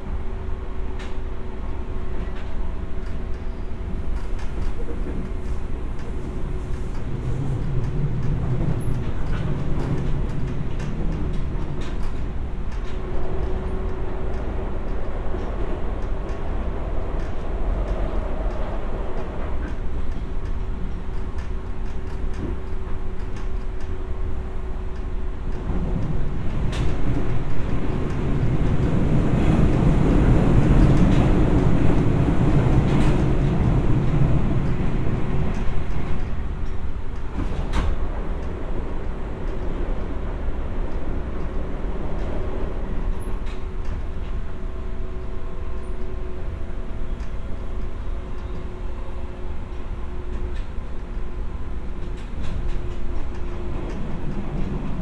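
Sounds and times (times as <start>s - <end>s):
steady train hum: 0.0s - 55.0s
train wheels on rail: 0.0s - 55.0s.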